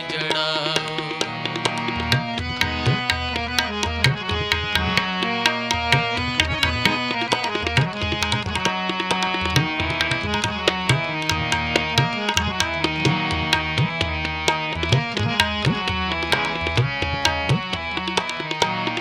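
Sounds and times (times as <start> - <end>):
tabla drumming: 0.0 - 19.0.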